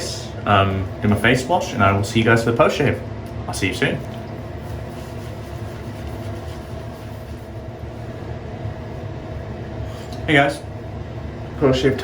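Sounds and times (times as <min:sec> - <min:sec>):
faint even hum: 0:00.0 - 0:12.0.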